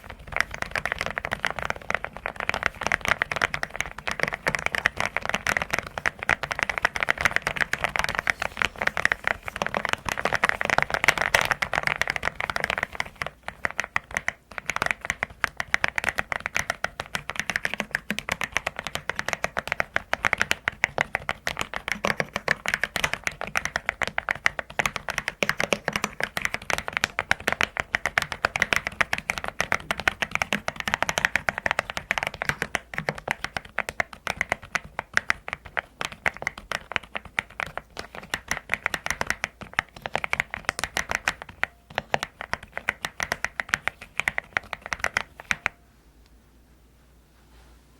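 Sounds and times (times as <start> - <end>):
mechanical keyboard typing: 0.0 - 45.7.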